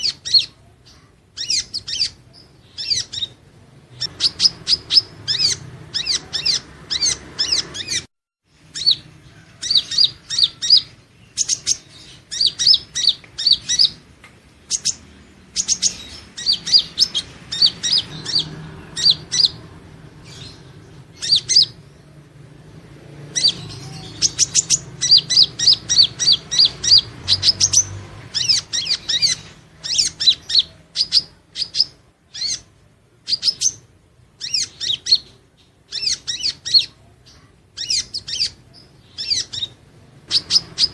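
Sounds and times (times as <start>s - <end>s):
bird twittering chirps: 0.0s - 40.9s.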